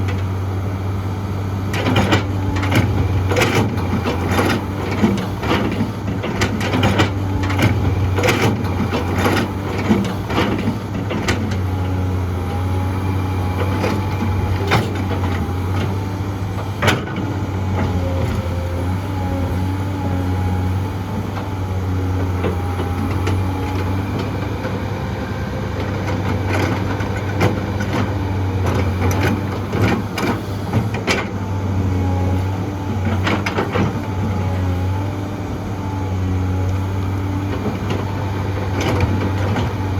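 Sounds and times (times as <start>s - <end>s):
diesel excavator engine: 0.0s - 39.9s.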